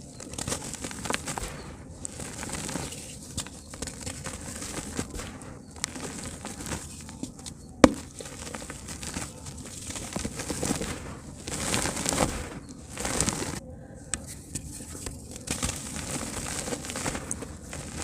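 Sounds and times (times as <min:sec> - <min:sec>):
dirt crumbling in water: 0:00.0 - 0:13.6, 0:15.0 - 0:18.0.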